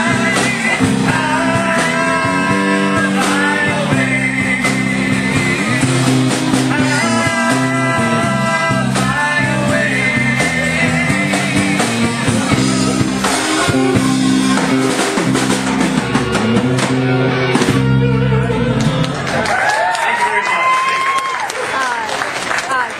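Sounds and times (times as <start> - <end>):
person singing: 0.0 - 19.2
drum kit: 0.0 - 20.0
bass line: 0.0 - 20.2
electric guitar: 0.0 - 21.3.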